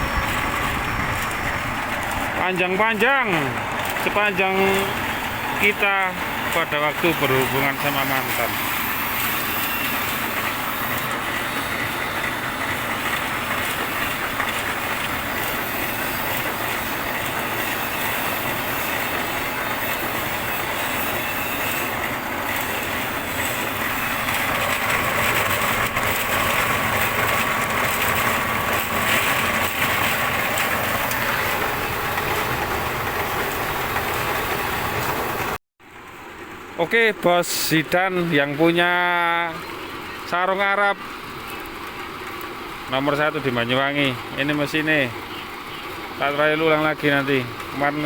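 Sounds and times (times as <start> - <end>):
pellet mill machine running: 0.0 - 48.0.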